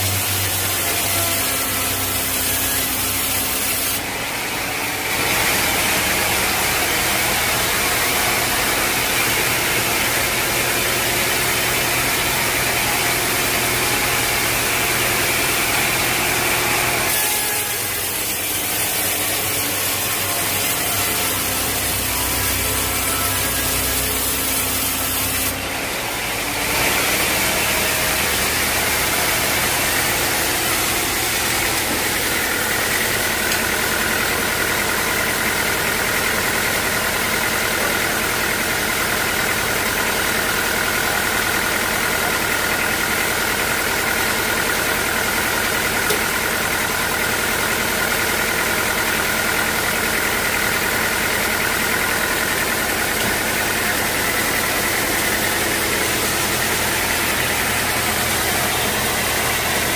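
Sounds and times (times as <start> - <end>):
high machine whine: 0.0 - 59.9
sawmill machinery running: 0.0 - 59.9.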